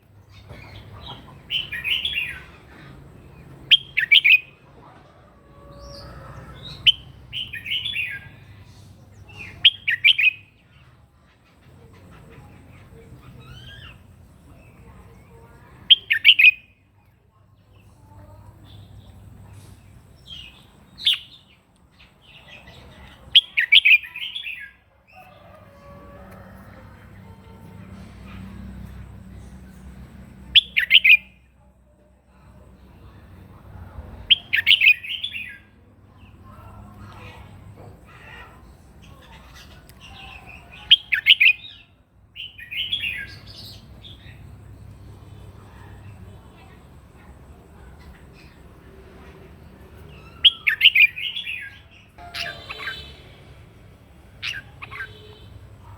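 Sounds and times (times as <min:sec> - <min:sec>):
bird singing warbled phrases: 0:00.2 - 0:04.6, 0:05.8 - 0:16.8, 0:17.6 - 0:25.4, 0:30.4 - 0:31.5, 0:34.2 - 0:48.8, 0:49.6 - 0:55.9.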